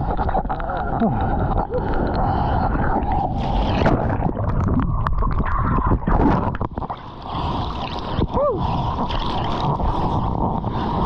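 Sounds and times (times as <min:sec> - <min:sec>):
surf water rushing and splashing: 0:00.0 - 0:11.0.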